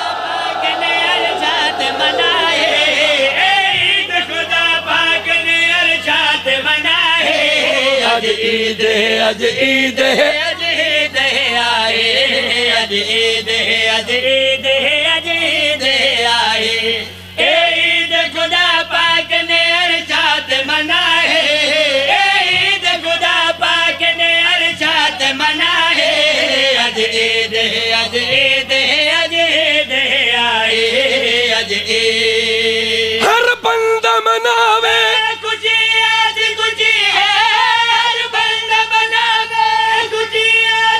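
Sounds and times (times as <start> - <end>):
man singing over loudspeaker: 0.7 - 40.9.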